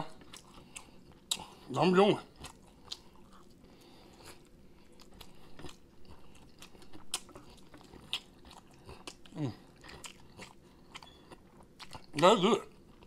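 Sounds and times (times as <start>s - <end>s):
wet chewing and biting: 2.3s - 13.0s.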